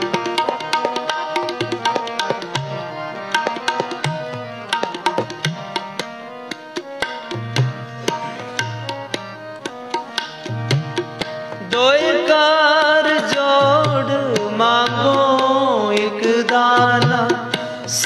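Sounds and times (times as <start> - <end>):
harmonium held melody: 0.0 - 18.0
tabla drumming: 0.0 - 18.0.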